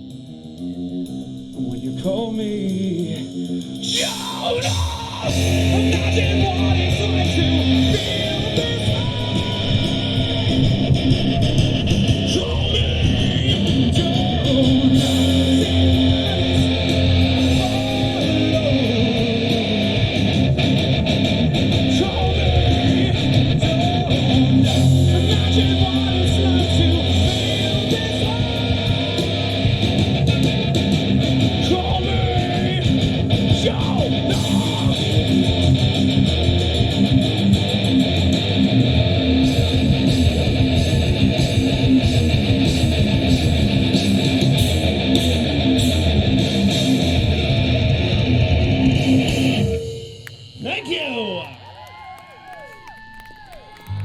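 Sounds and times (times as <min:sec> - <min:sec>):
live rock band with guitars: 0:00.0 - 0:54.0.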